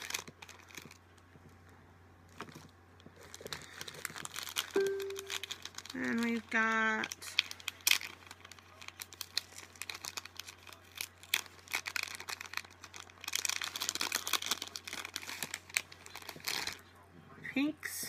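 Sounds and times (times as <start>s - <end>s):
crinkling and rustling: 0.0s - 17.3s.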